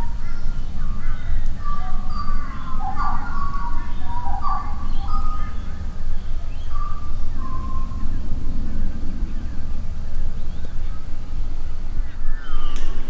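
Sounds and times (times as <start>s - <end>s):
faint high chirps: 0.0s - 13.0s
steady low rumble: 0.0s - 13.0s
whistled bird calls: 0.0s - 13.0s.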